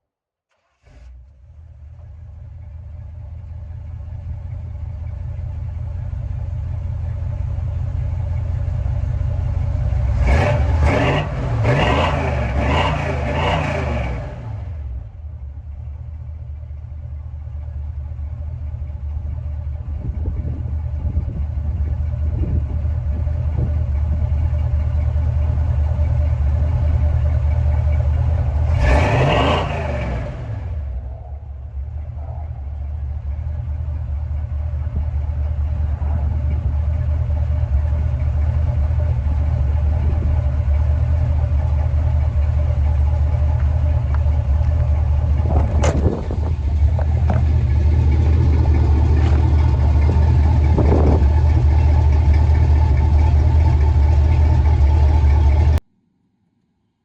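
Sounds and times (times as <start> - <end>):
vehicle engine drone: 0.0 - 57.0
road noise: 0.7 - 55.9.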